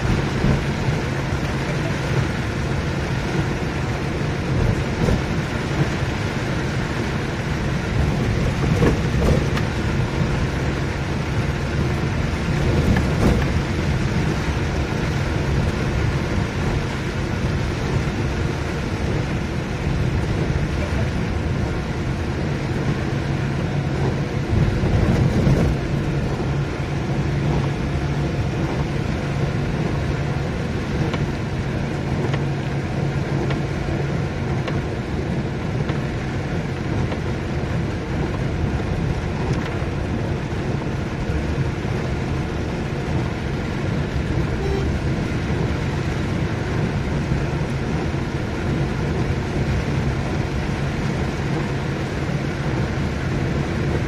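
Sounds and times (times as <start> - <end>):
vehicle engine humming: 0.0 - 54.0
wet tyres on road: 0.0 - 54.0.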